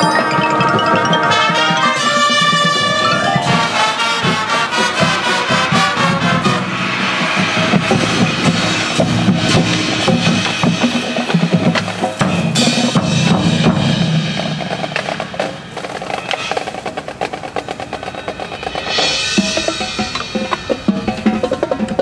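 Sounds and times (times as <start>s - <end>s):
marching band brass: 0.0s - 22.0s
snare and bass drums: 2.3s - 22.0s.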